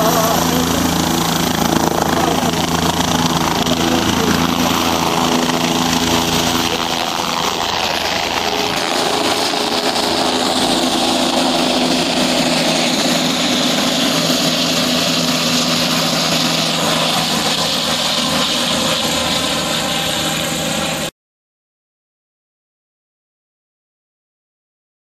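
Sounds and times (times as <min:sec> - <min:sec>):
engine humming: 0:00.0 - 0:21.1.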